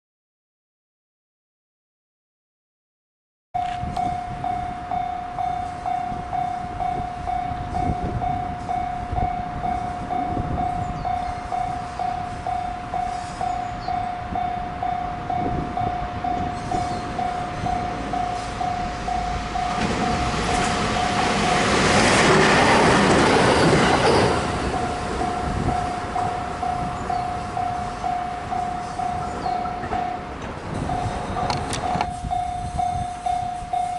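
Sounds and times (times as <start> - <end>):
level crossing bell ringing: 3.6 - 21.8, 24.7 - 33.9
train passing: 3.6 - 33.9.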